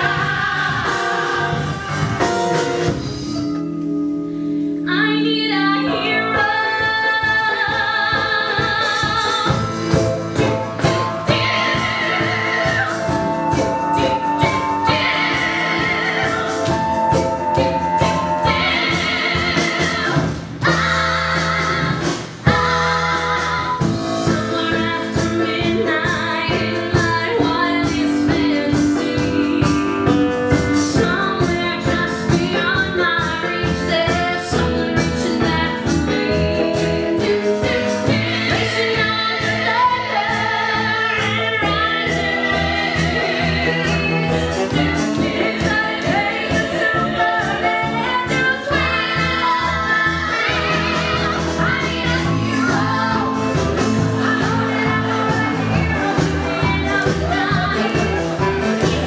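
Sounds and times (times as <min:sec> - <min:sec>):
women singing pop-rock: 0:00.0 - 0:02.5, 0:04.9 - 0:59.0
steady drum beat: 0:00.0 - 0:03.4, 0:07.7 - 0:59.0
band playing: 0:00.0 - 0:59.0.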